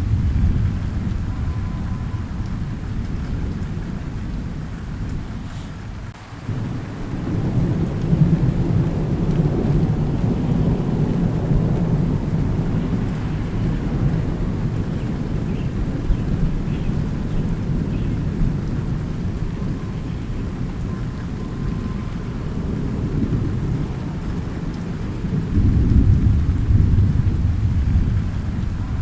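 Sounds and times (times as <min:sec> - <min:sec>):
steady rain: 0:00.0 - 0:29.0
thunder rumbling: 0:00.0 - 0:29.0.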